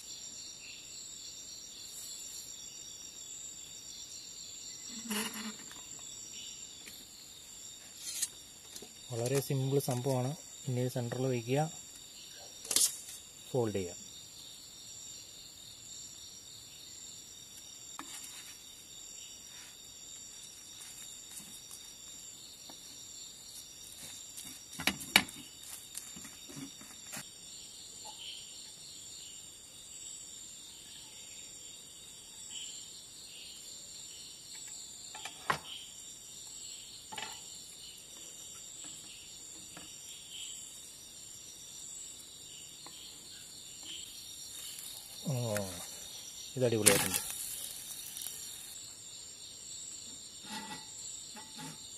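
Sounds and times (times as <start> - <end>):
crickets chirping: 0.0 - 51.9.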